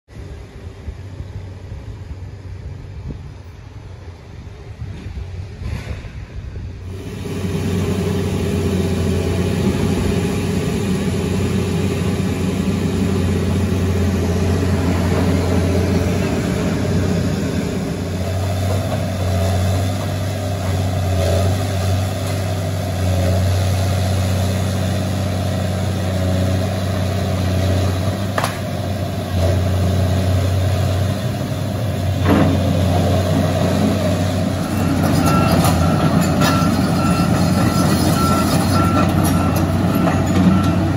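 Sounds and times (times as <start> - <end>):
excavator diesel engine: 6.7 - 40.9.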